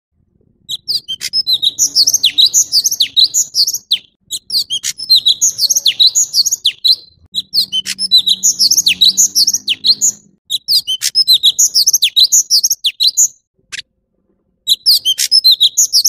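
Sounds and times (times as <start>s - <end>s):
bird singing high chirps and whistles: 0.7s - 13.8s, 14.7s - 16.0s.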